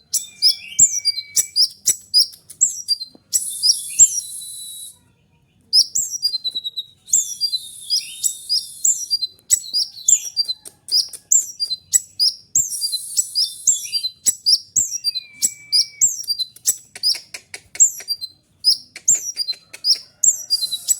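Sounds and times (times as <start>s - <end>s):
sunbird singing high chirps: 0.0s - 5.0s, 5.8s - 20.9s.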